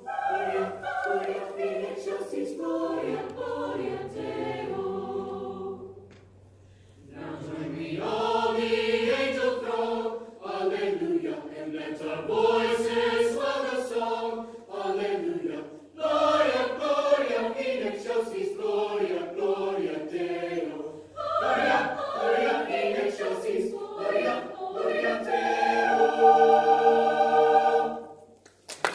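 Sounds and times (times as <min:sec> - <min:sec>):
choir singing: 0:00.0 - 0:06.2, 0:07.0 - 0:28.4.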